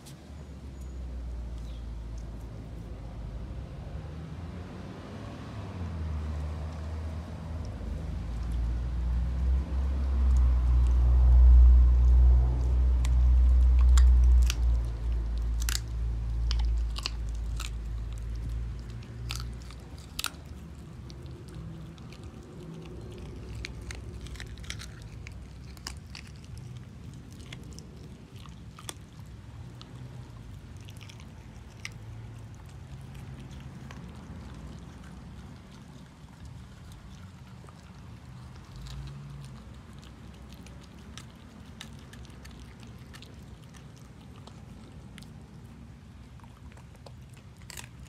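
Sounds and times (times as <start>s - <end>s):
dog crunching a chew treat: 5.2s - 48.0s.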